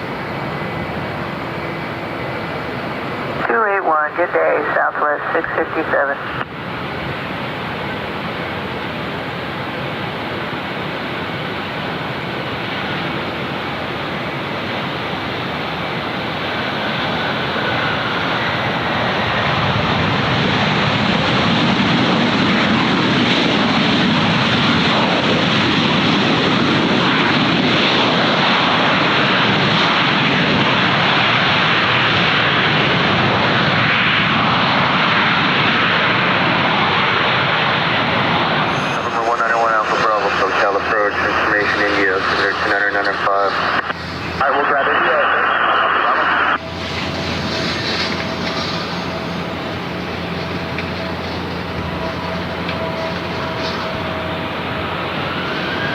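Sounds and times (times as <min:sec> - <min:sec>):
airliner engines: 0:00.0 - 0:55.9.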